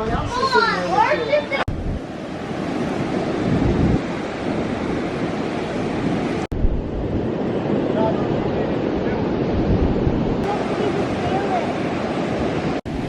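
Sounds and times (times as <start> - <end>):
surf rushing: 0.0 - 13.0
wind buffeting microphone: 0.0 - 13.0.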